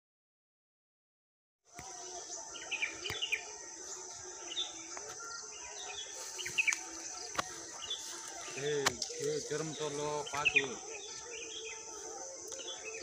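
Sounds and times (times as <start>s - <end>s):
birds chirping: 1.7s - 13.0s
high insect drone: 1.7s - 13.0s.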